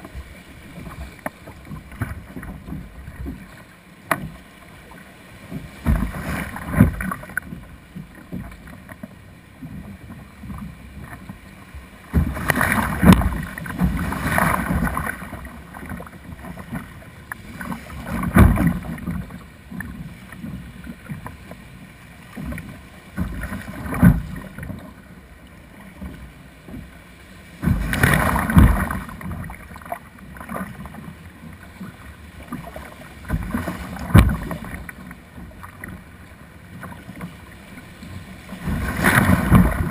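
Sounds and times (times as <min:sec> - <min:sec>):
surf breaking: 0:00.0 - 0:11.4, 0:12.0 - 0:21.6, 0:25.8 - 0:39.9
water splashing against kayak: 0:00.0 - 0:39.9.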